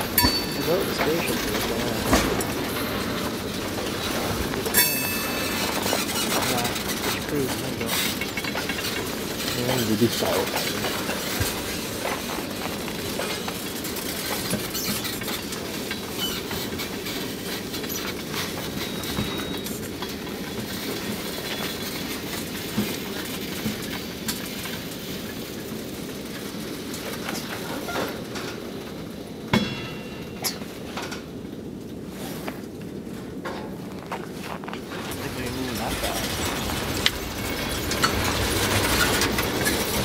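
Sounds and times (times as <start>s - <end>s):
train wheels rumbling on rails: 0.0s - 40.0s
wheels clanking over rail joints: 0.0s - 40.0s.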